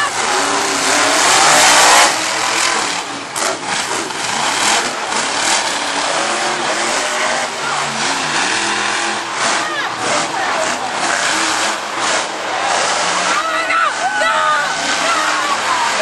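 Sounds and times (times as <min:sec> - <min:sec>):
truck engine revving hard: 0:00.0 - 0:16.0.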